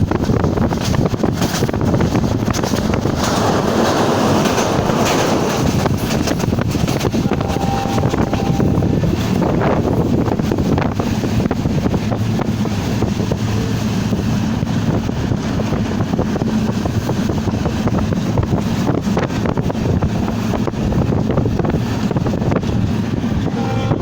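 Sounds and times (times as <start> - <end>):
train running with heavy rumble: 0.0 - 24.0
wind buffeting microphone: 0.0 - 24.0.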